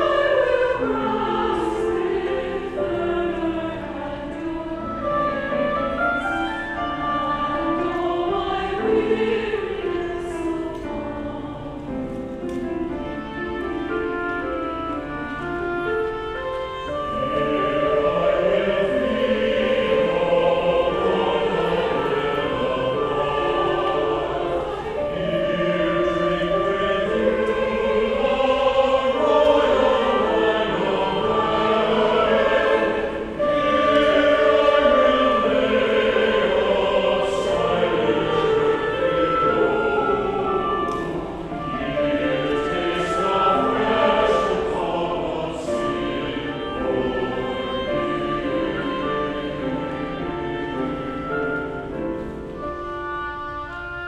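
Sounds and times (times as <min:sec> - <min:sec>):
choir singing sustained chords: 0:00.0 - 0:54.0.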